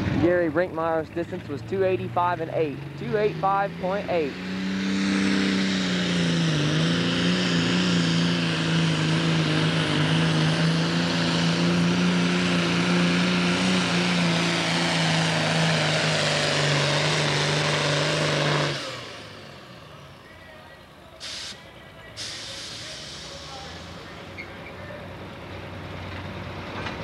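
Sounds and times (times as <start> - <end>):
diesel engine droning under load: 0.0 - 27.0.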